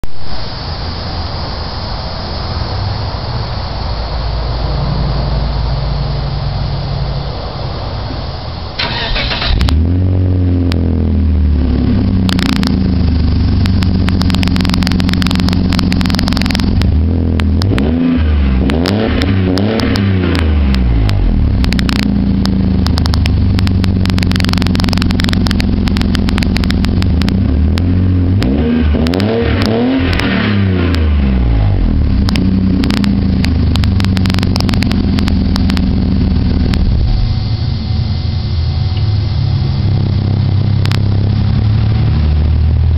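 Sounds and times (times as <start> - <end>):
car engine idling and revving: 1.8 - 42.9.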